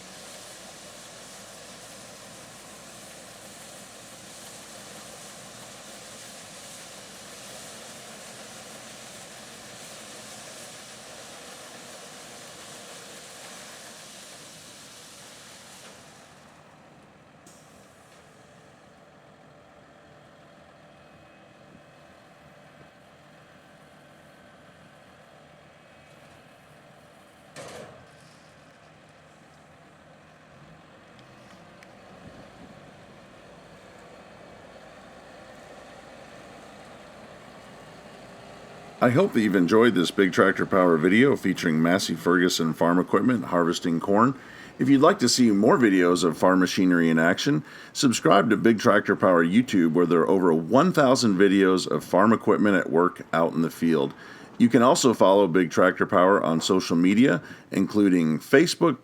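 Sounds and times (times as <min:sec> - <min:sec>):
harvest machinery running: 0:00.0 - 0:21.2, 0:31.0 - 0:59.0.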